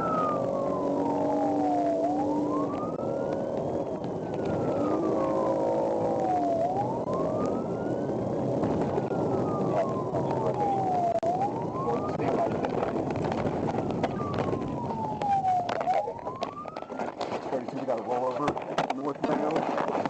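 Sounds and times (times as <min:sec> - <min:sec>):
police siren wailing: 0:00.0 - 0:20.0
road noise rumble: 0:00.0 - 0:20.0.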